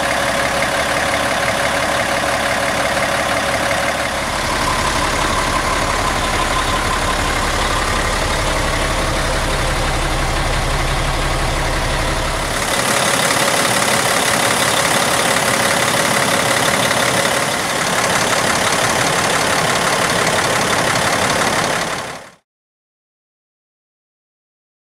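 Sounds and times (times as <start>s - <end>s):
diesel engine idling: 0.0s - 22.4s.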